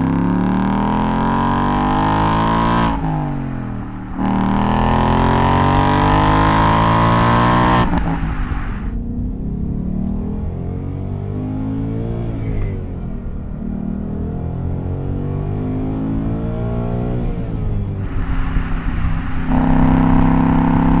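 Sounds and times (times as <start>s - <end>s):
car engine accelerating hard: 0.0s - 9.0s, 9.6s - 21.0s.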